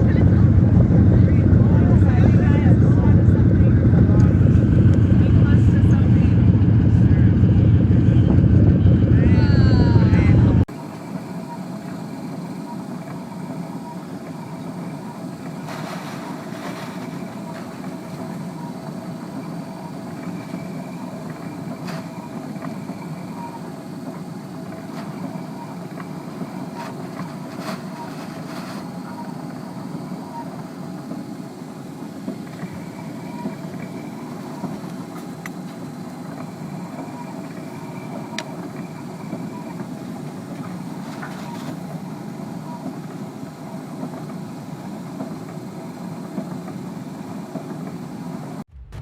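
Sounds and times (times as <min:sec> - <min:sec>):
machinery hum with whining tones: 0:00.0 - 0:49.0.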